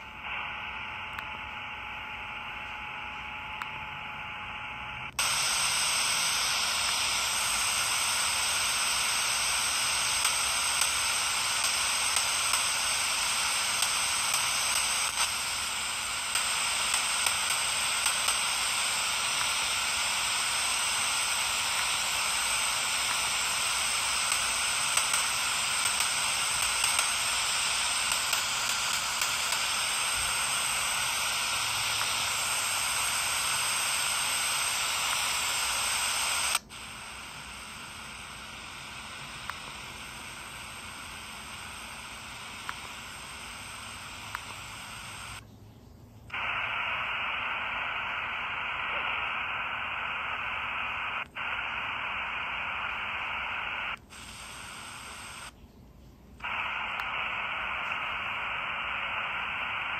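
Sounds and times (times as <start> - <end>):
radio static hiss: 0.0 - 59.9
small crackles: 5.2 - 45.5, 46.3 - 55.8, 56.4 - 59.9.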